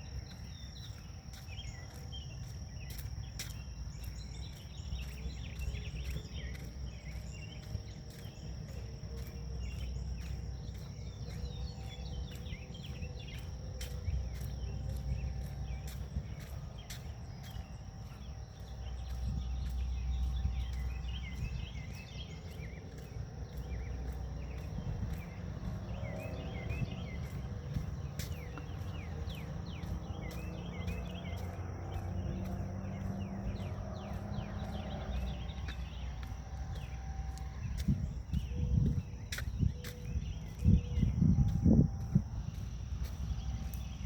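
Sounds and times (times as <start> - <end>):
birds chirping: 0.0 - 44.0
low wind rumble: 0.0 - 44.0.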